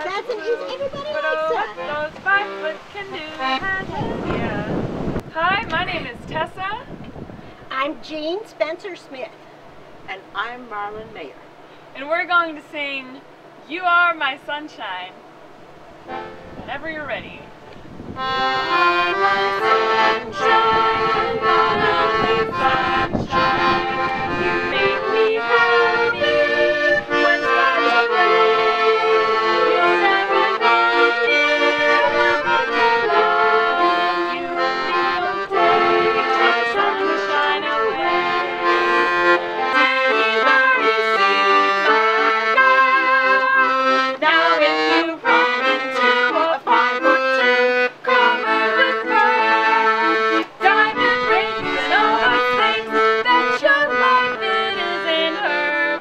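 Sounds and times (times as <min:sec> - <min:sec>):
accordion playing chords: 0:00.0 - 0:06.7, 0:10.4 - 0:56.0.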